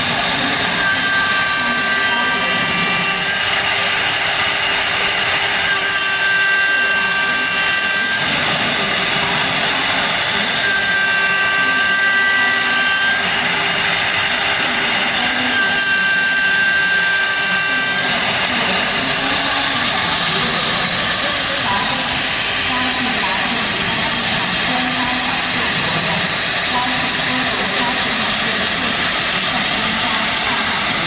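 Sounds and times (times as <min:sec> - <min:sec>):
high machine whine: 0:00.0 - 0:31.0
lathe machine humming: 0:00.0 - 0:31.0.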